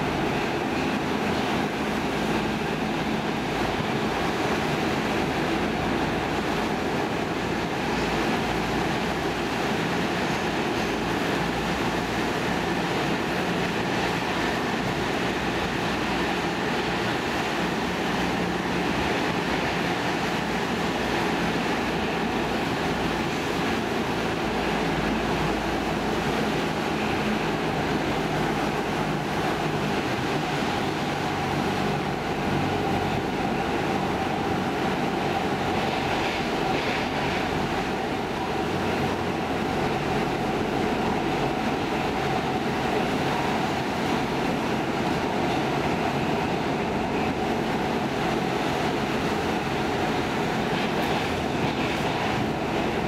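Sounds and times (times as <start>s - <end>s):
train body noise: 0.0s - 53.0s
wheels rumbling on rail: 0.0s - 53.0s.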